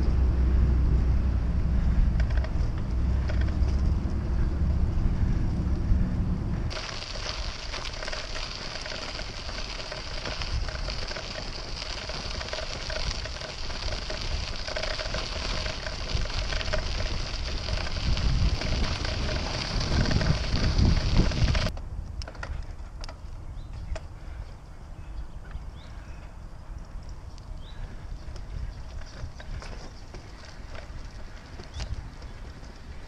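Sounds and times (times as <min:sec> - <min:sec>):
bicycle tyres crunching on gravel: 0:01.6 - 0:06.0, 0:06.7 - 0:24.4, 0:27.0 - 0:33.0
bicycle clicks and rattles: 0:01.8 - 0:04.5, 0:06.7 - 0:24.4, 0:26.6 - 0:33.0.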